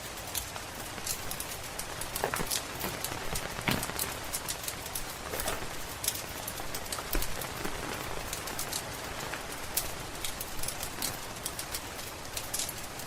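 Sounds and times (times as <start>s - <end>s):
rain hiss: 0.0s - 13.0s
wood fire crackling: 0.0s - 13.0s.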